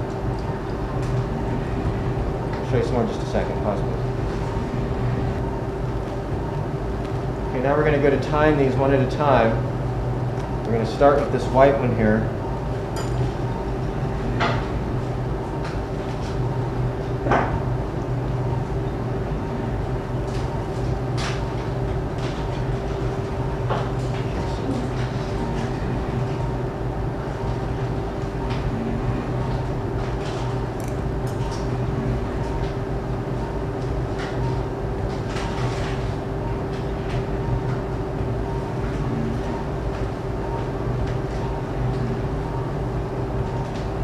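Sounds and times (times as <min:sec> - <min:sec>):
equipment humming: 0:00.0 - 0:44.0.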